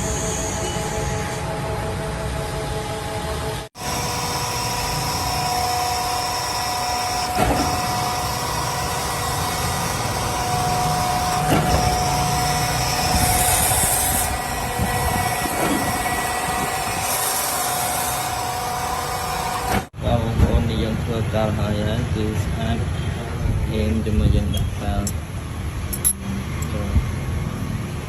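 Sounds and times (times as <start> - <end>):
workshop machinery humming: 0.0 - 28.0.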